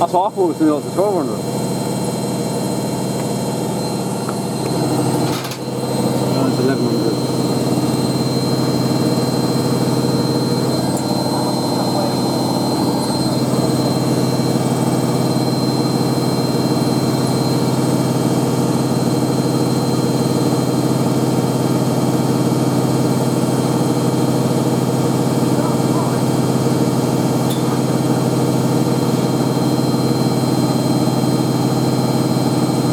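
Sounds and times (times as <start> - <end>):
washing machine spinning: 0.0 - 32.9.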